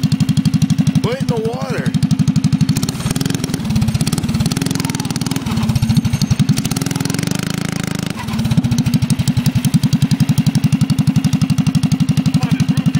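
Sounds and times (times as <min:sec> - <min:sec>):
single-cylinder engine running: 0:00.0 - 0:12.9.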